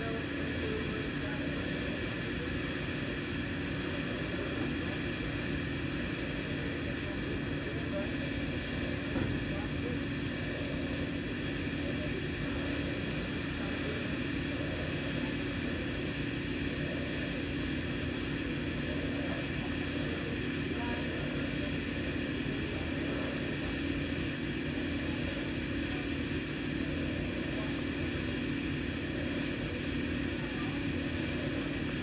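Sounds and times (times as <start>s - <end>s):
welding arc humming and hissing: 0.0s - 32.0s.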